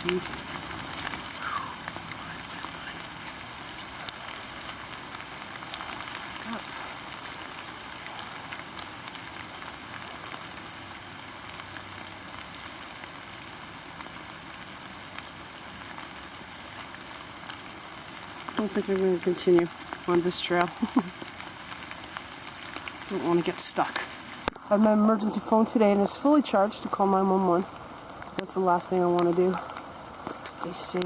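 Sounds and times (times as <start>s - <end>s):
rain pattering: 0.0s - 31.0s
raindrops ticking on surfaces: 0.0s - 31.0s.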